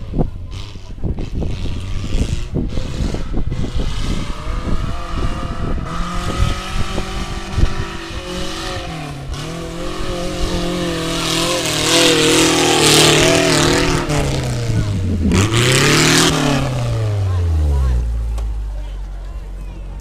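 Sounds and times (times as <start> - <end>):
vehicle engine running under load: 0.0 - 20.0.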